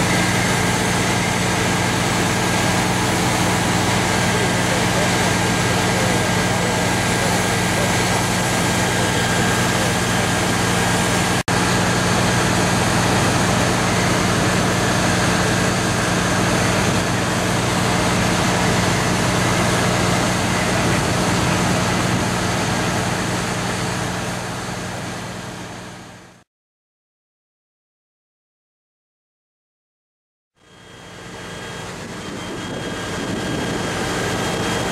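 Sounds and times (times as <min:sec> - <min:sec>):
diesel machinery droning: 0:00.0 - 0:26.4, 0:30.6 - 0:34.9.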